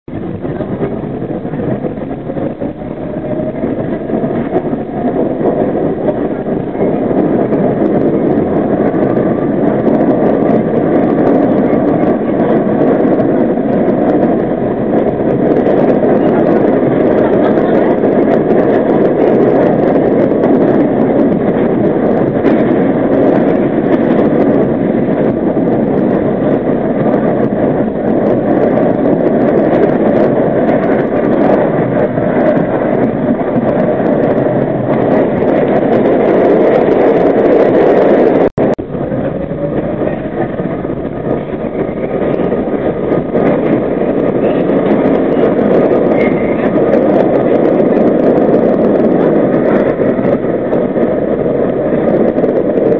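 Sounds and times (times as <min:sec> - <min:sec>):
subway wheel and track noise: 0:00.1 - 0:52.9.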